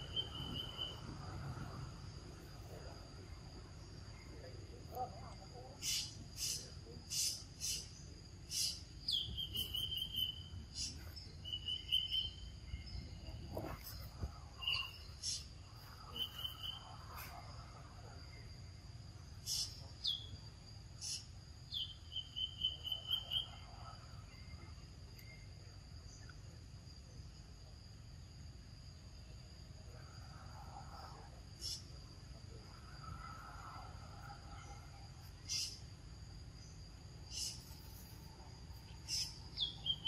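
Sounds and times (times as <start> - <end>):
insect chirping trills: 0.0 - 40.0.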